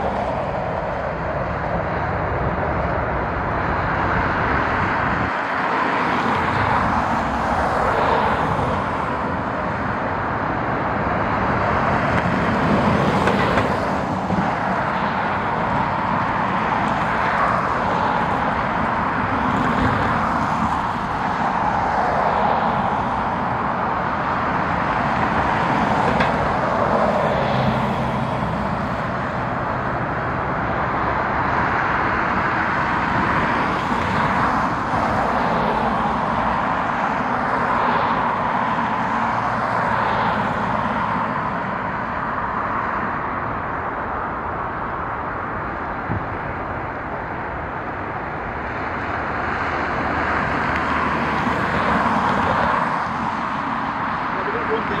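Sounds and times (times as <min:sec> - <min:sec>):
outdoor rushing noise: 0:00.0 - 0:55.0.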